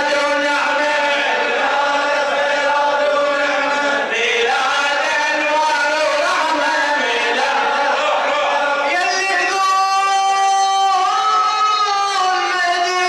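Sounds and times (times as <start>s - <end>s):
man chanting loudly: 0.0s - 13.0s.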